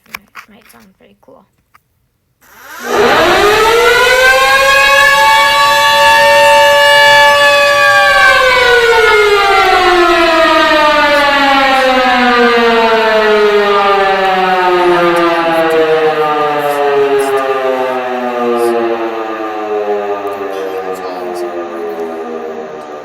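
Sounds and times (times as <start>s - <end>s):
tornado siren wail: 2.4s - 23.0s.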